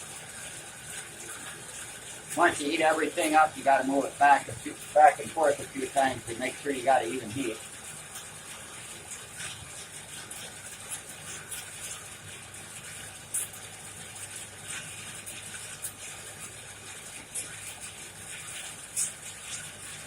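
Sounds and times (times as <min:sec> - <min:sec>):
coal crackling and popping: 0:00.0 - 0:20.0
low hum of forge air: 0:00.0 - 0:20.0.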